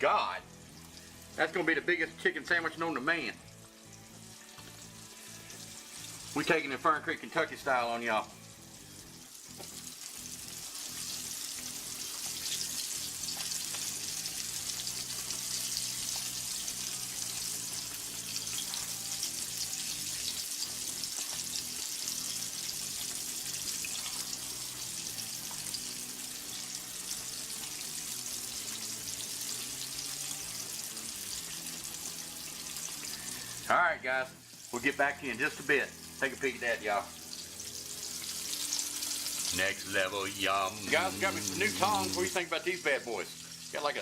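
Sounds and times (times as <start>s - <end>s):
chicken frying in hot oil: 0.0s - 44.0s.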